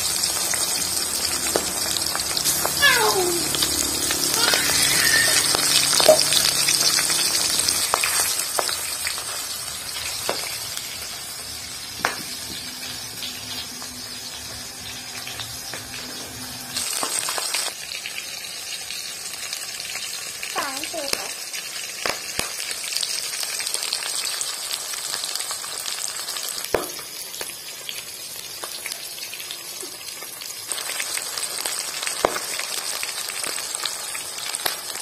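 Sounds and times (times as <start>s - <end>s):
fish frying in oil: 0.0s - 35.0s.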